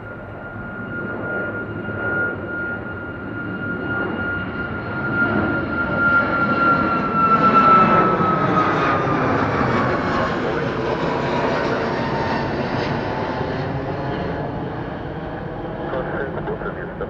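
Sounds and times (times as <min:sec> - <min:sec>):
jet engine whine: 0:00.0 - 0:17.0.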